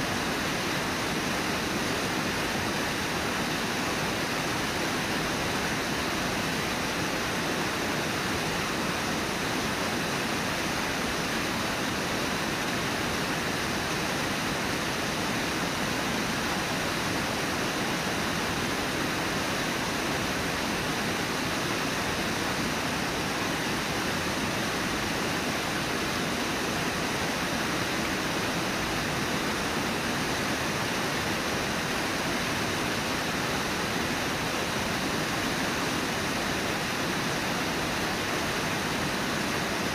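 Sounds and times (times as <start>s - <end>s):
white water rushing: 0.0s - 39.9s.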